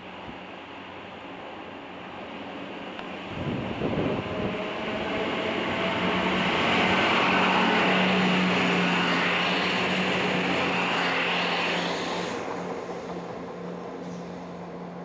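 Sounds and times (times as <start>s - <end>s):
train engine drone: 0.0s - 15.0s
wheels rushing on rails: 0.0s - 15.0s.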